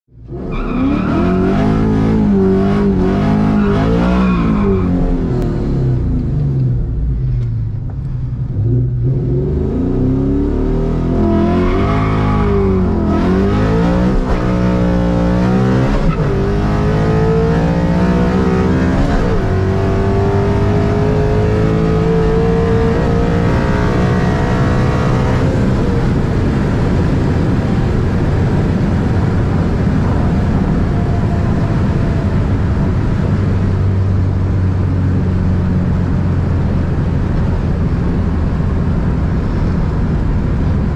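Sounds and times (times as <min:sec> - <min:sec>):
car engine accelerating through gears: 0:00.2 - 0:40.9.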